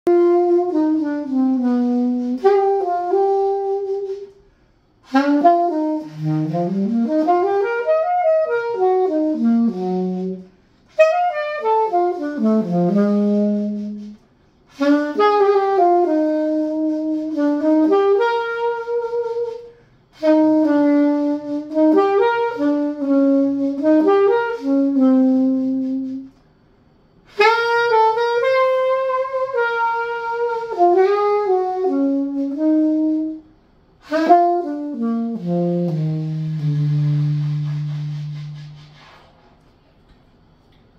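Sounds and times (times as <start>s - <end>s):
alto saxophone playing melody: 0.0s - 39.2s.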